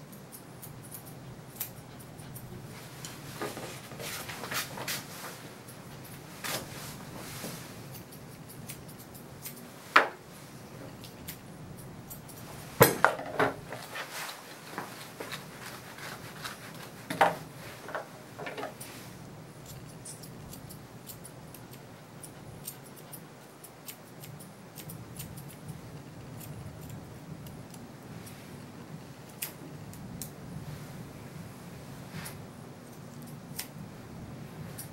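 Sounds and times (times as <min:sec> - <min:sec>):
grooming shears snipping fur: 0:00.0 - 0:13.0, 0:13.6 - 0:31.0, 0:32.0 - 0:33.9.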